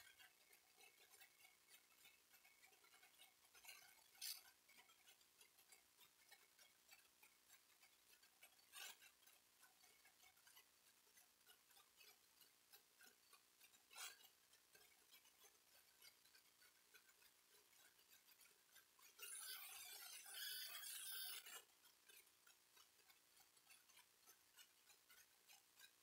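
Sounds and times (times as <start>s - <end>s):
rapid faint ticking: 0.0s - 26.0s.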